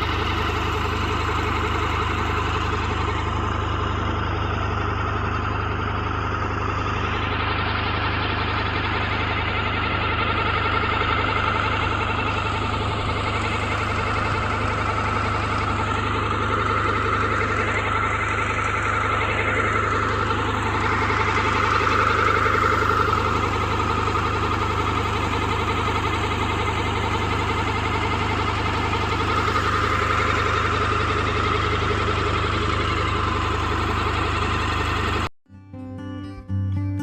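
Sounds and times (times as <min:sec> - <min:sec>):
water pump engine hum with whine: 0:00.0 - 0:35.3.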